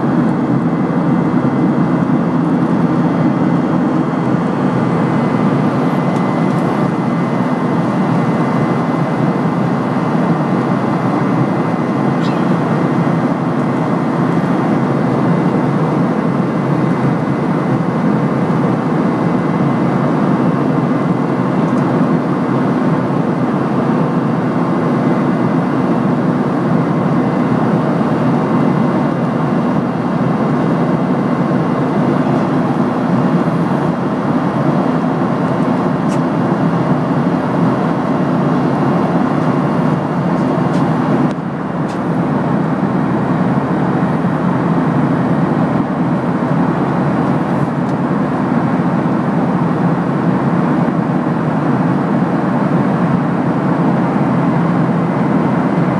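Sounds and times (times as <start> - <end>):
jet engine and airflow rush: 0.0 - 55.9.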